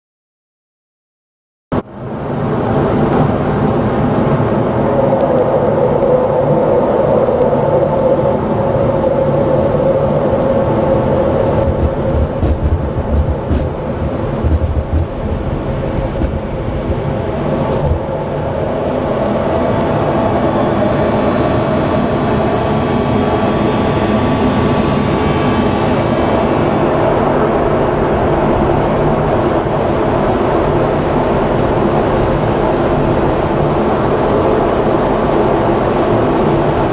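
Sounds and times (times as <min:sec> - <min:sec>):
jet engine roar: 0:01.8 - 0:36.9
wheels rumbling on runway: 0:01.8 - 0:36.9.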